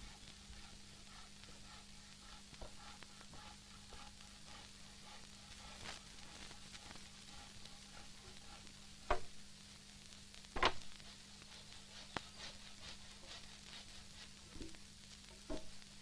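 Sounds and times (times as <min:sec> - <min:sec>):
film soundtrack hiss and crackle: 0:00.0 - 0:16.0
low steady hum: 0:00.0 - 0:16.0.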